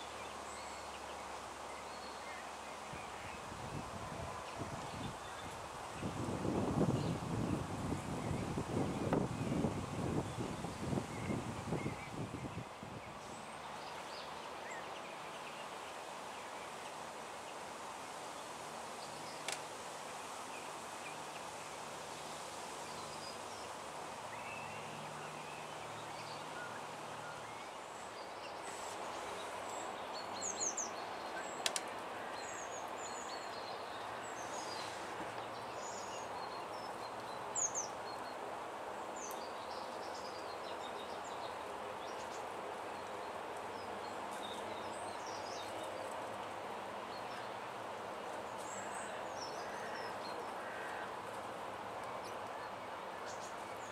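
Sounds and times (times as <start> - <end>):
outdoor background hiss: 0.0 - 53.9.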